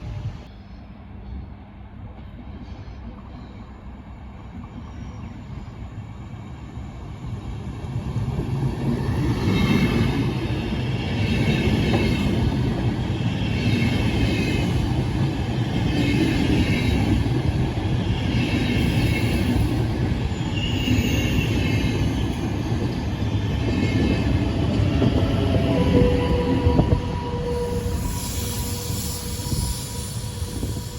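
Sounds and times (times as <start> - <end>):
train running on track: 0.0 - 30.9.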